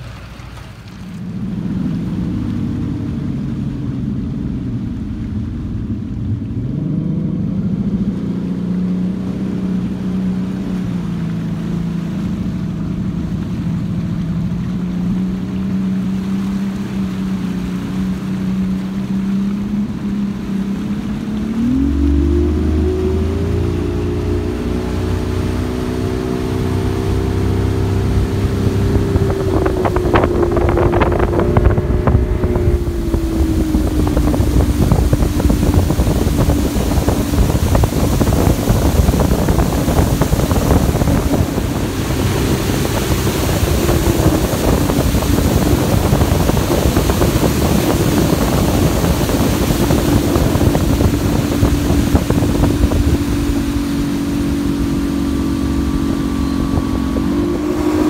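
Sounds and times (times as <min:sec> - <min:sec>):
outboard motor running: 0:00.0 - 0:58.0
water rushing along hull: 0:00.0 - 0:58.0
wind on microphone: 0:01.0 - 0:58.0.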